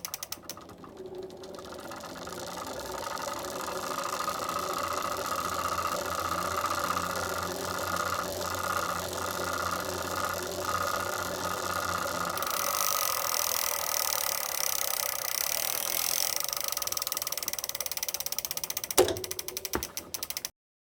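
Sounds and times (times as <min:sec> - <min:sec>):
low hum: 0:00.0 - 0:17.3
trainer whining rattling drone: 0:00.0 - 0:20.5.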